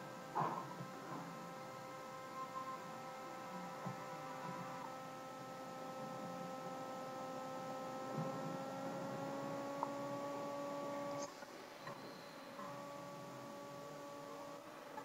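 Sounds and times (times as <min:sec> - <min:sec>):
electrical hum with held tones: 0:00.0 - 0:15.0.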